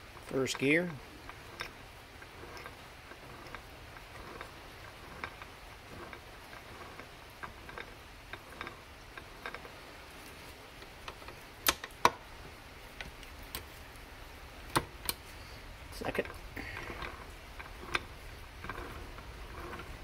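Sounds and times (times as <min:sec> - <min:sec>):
transmission gears clicking: 0:00.0 - 0:12.3, 0:12.9 - 0:20.0.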